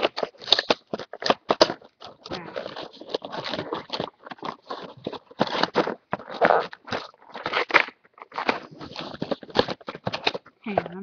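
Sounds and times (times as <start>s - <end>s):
toy packaging crinkling: 0.0s - 11.0s.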